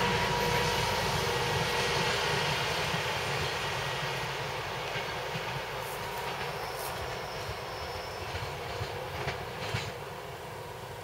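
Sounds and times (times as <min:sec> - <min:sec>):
electric train rolling on rails: 0:00.0 - 0:11.0.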